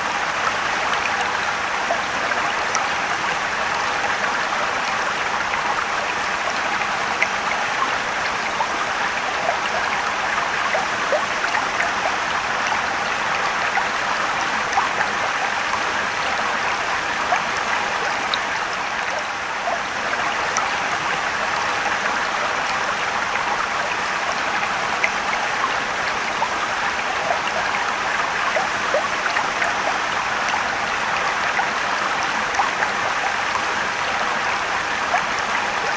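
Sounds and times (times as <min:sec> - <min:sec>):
stream and waterfall rushing: 0:00.0 - 0:35.9.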